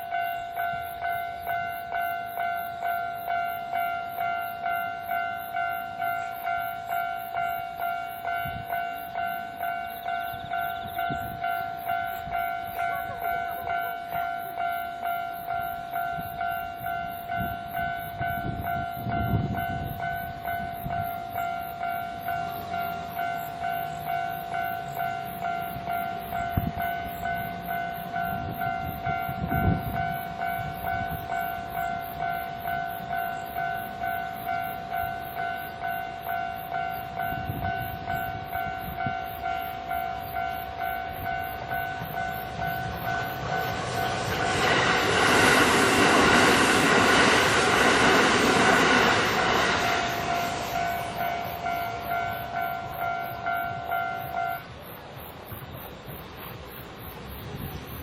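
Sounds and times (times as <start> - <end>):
train wheels clacking on rail joints: 0.0 - 54.8
level-crossing alarm bell ringing: 0.0 - 55.6
electric train rumbling: 0.0 - 58.0.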